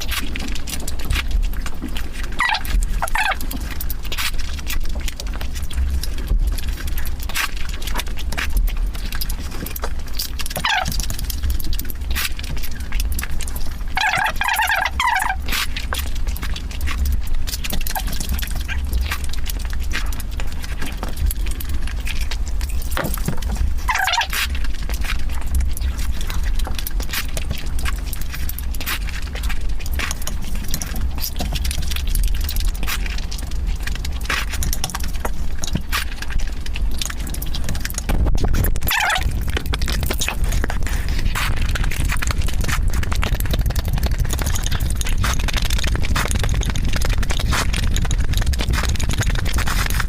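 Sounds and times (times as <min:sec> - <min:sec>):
low rumble: 0:00.0 - 0:50.0
steady low hum: 0:00.0 - 0:50.0
wet chewing and mouth noises: 0:00.0 - 0:50.0.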